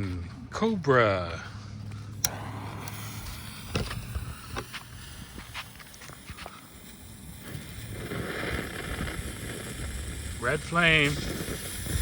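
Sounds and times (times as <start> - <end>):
firework fountain hissing: 2.2 - 12.0
wind on microphone: 2.2 - 12.0.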